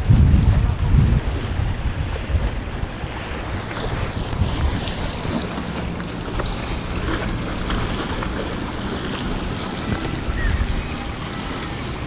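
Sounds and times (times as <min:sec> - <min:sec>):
waves splashing against boulders: 0:00.0 - 0:12.0
wind buffeting microphone: 0:00.0 - 0:12.0.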